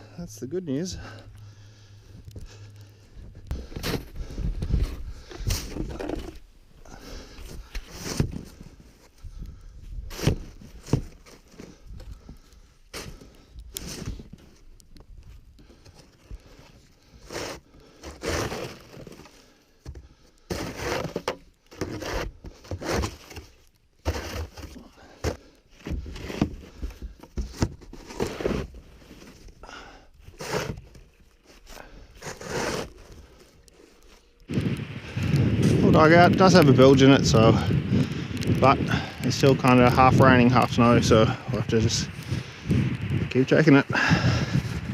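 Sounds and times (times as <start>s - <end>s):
crunching and scraping in snow: 0.0s - 19.6s, 20.5s - 29.6s, 30.2s - 44.9s.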